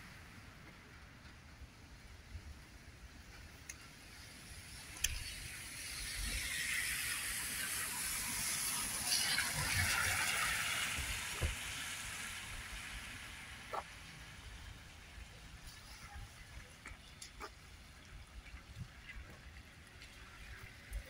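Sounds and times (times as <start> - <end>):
tyres hissing on wet road: 0.0 - 21.0.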